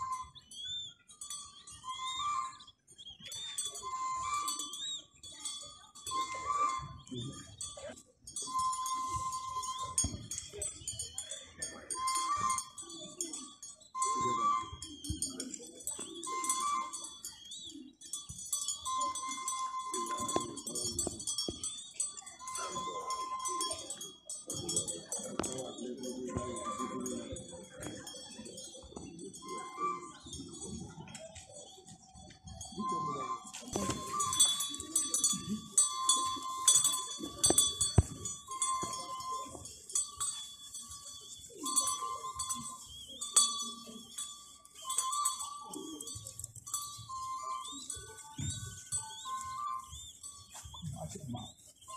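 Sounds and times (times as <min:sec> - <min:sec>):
bells ringing: 0:00.0 - 0:51.9
held high tone: 0:00.0 - 0:51.9
metallic jingling and clinking: 0:00.0 - 0:51.9
voices: 0:00.0 - 0:51.9.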